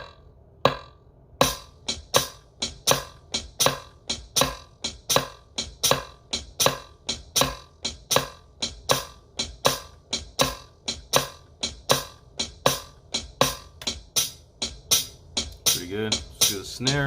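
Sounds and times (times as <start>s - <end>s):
crisp swung hi-hat pattern: 1.4s - 17.0s.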